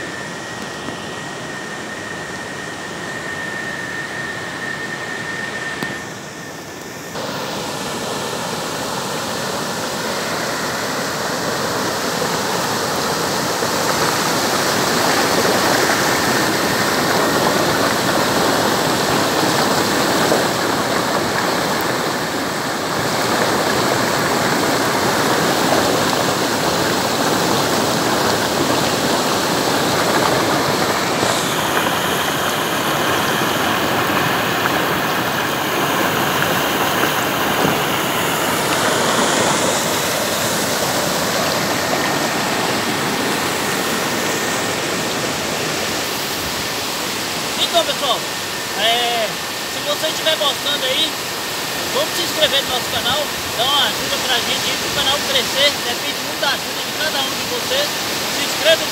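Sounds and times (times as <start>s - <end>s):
water rushing over dam spillway: 7.0s - 58.9s.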